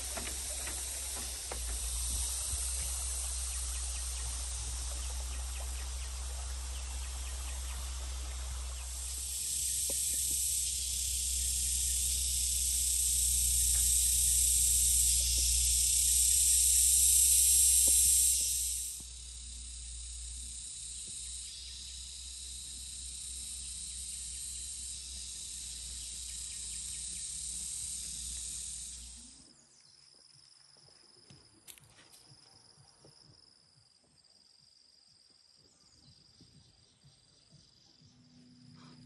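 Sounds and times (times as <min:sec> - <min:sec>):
faint outdoor hiss: 0:00.0 - 0:39.0
high-pitched insect chorus: 0:00.0 - 0:39.0.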